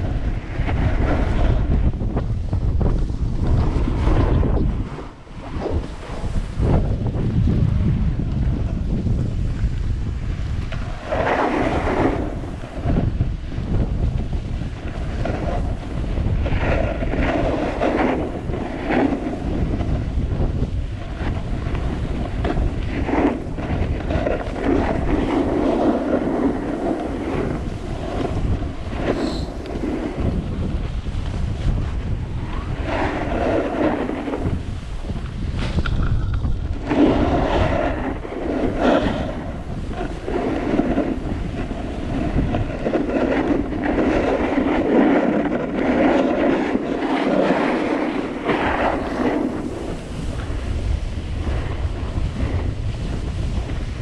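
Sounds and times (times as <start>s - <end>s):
wind buffeting microphone: 0.0s - 54.0s
ski edges scraping snow: 0.3s - 7.0s, 10.3s - 54.0s.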